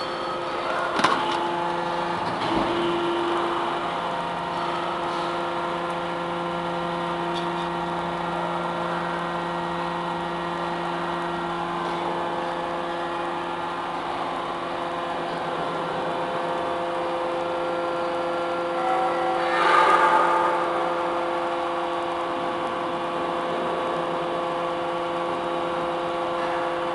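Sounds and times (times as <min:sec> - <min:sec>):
hydraulic power unit humming: 0:00.0 - 0:26.9.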